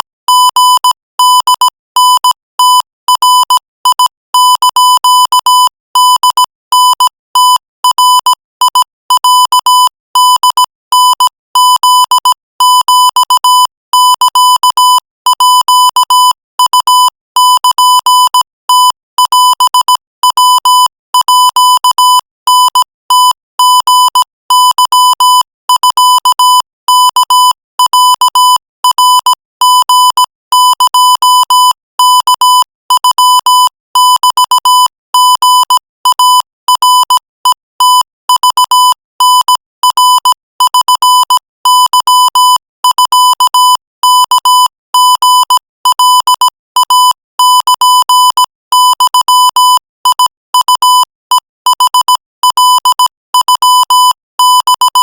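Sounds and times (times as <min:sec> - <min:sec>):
morse code beeps: 0:00.0 - 0:55.0.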